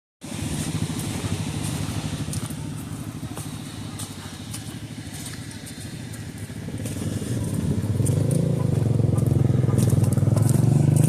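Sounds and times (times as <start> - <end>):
engine running with low rumble: 0.2 - 11.0.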